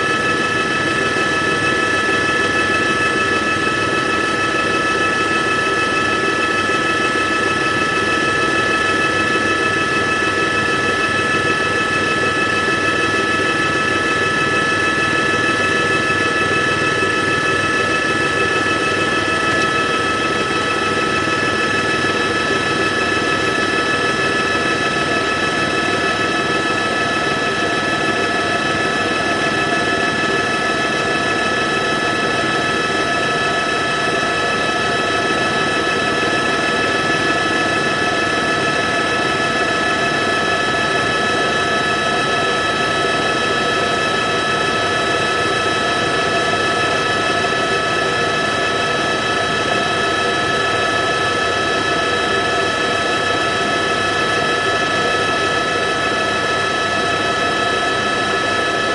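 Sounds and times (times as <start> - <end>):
helicopter engine and rotor: 0.0 - 58.9.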